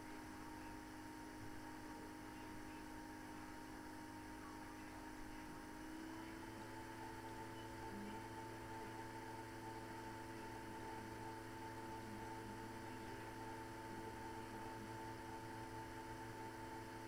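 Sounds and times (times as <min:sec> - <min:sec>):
electrical hum with held tones: 0:00.0 - 0:17.0.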